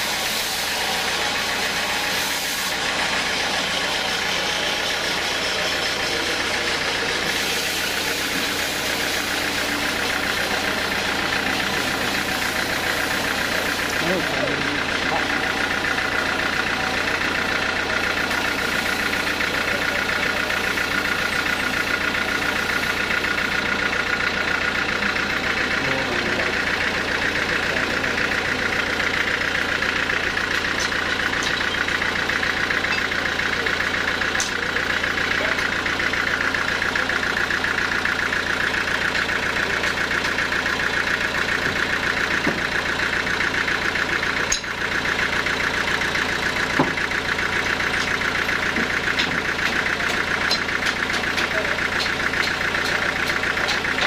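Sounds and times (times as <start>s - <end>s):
sawmill drone: 0.0s - 54.0s.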